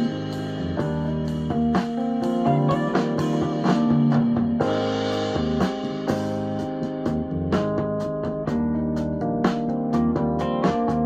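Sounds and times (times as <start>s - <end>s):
guitar and drums music on speakers: 0.0s - 11.0s.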